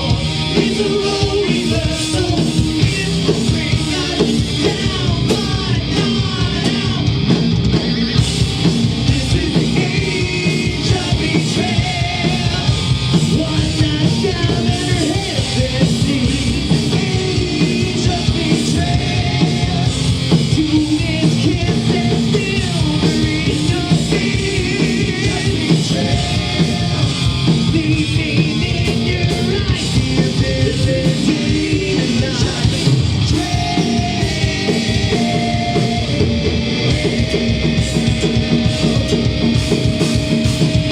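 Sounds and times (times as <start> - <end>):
person singing: 0.0 - 7.1, 9.0 - 40.9
distorted electric guitars: 0.0 - 40.9
drums: 0.0 - 40.9.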